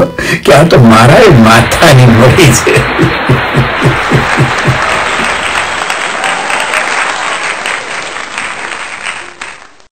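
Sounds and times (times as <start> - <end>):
crowd applauding: 1.1 - 9.9.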